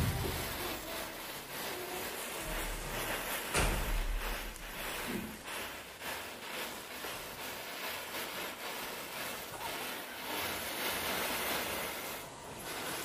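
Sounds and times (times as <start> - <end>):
matches burning with hiss: 0.0 - 13.0.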